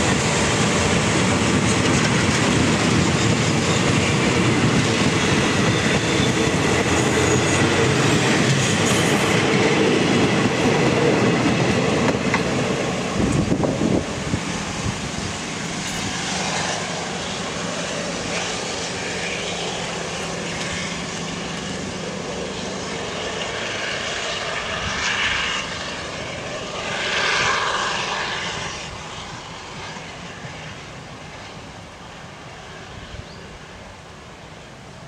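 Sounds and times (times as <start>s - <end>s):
diesel locomotive engine drone: 0.0s - 35.0s
rail noise: 0.0s - 35.0s.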